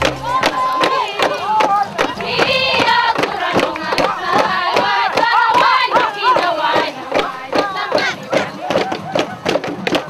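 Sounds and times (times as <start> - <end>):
fast percussive beat: 0.0 - 10.0
group of voices singing and chanting: 0.0 - 10.0.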